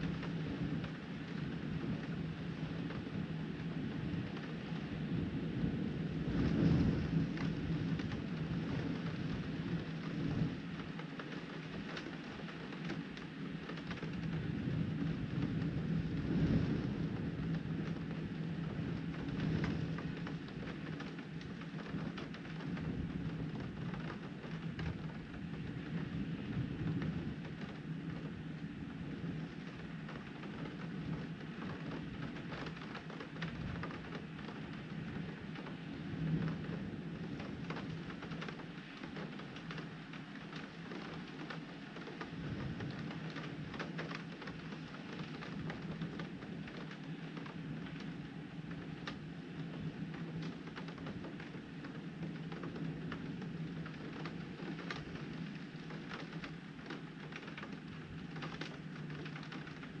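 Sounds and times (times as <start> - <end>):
heavy rain on window glass: 0.0 - 60.0.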